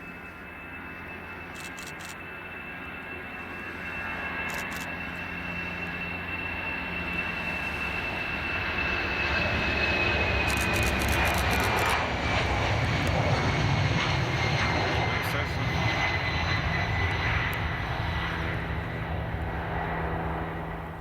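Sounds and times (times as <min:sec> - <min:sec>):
jet turbine whine: 0:00.0 - 0:21.0
low jet engine rumble: 0:00.0 - 0:21.0.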